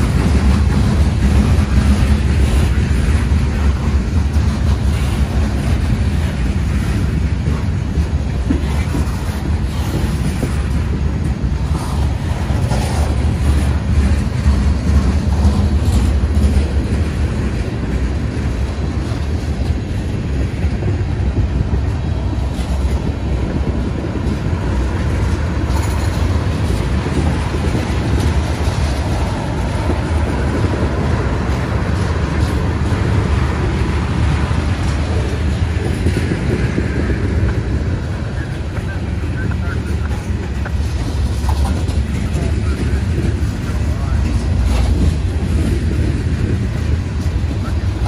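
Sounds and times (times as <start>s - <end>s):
freight train rumbling on track: 0.0s - 48.0s.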